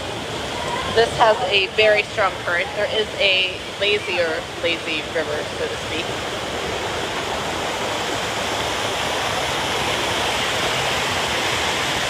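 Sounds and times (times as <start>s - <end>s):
rushing churning water: 0.0s - 12.0s.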